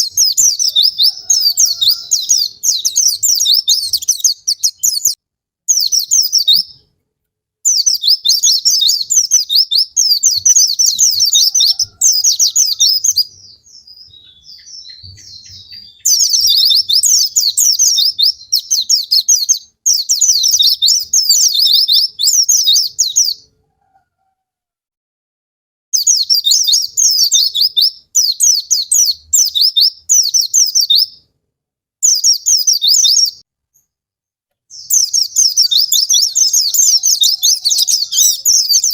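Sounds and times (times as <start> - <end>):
white-eye twittering song: 0.0 - 6.8, 7.7 - 23.4, 26.0 - 31.2, 34.7 - 38.9.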